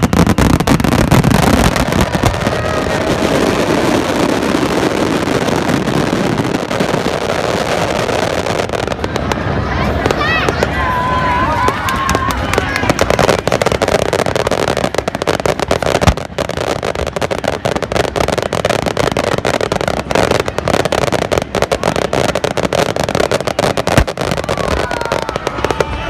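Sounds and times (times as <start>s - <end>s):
deep fireworks booms: 0.0s - 26.0s
fireworks crackling: 0.0s - 26.0s.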